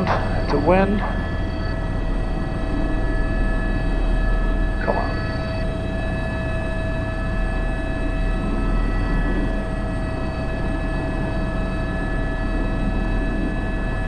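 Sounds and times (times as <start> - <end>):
helicopter turbine and rotor: 0.0 - 14.0.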